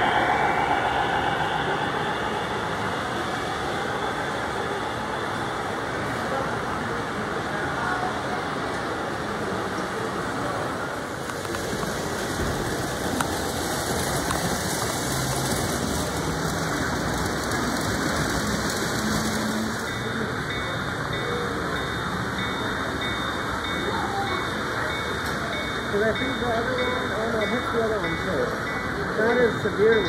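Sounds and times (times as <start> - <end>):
exhibit hall noise: 0.0 - 30.0
model trains rumbling on track: 0.0 - 30.0.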